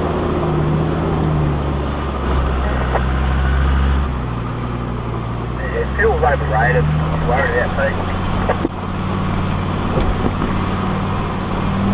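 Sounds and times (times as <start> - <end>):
car engine drone: 0.0 - 11.9
tyre and road noise: 0.0 - 11.9.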